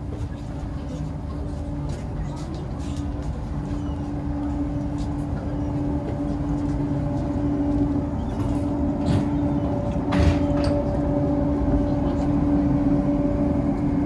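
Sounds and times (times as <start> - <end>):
machinery hum: 0.0 - 14.0.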